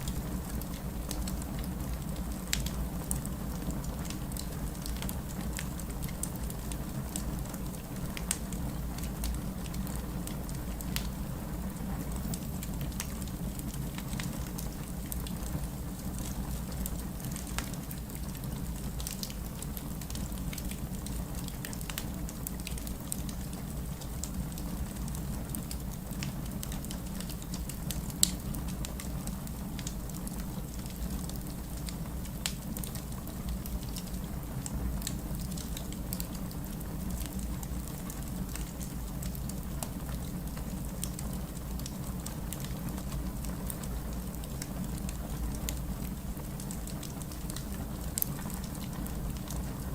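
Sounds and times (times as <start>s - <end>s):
burning wood crackling and popping: 0.0s - 49.9s.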